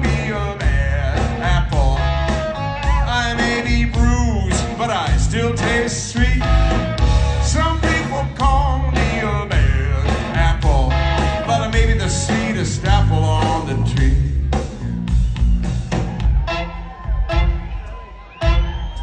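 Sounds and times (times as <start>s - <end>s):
electric guitar with bent notes: 0.0s - 19.0s
live blues-rock band playing: 0.0s - 19.0s
steady drum beat: 0.0s - 19.0s.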